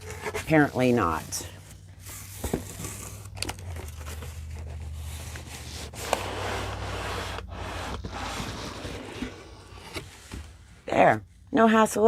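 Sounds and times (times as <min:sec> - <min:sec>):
cardboard scraping and rubbing: 0:00.0 - 0:10.5.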